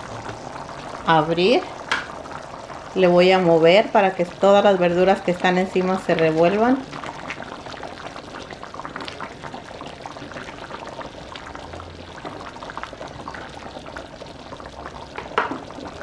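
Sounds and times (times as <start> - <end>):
rice broth bubbling and popping: 0.0 - 16.0.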